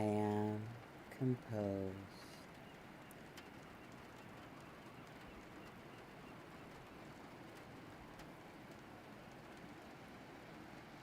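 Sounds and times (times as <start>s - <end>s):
faint outdoor ambience: 0.0s - 11.0s
faint ticks: 2.1s - 10.9s.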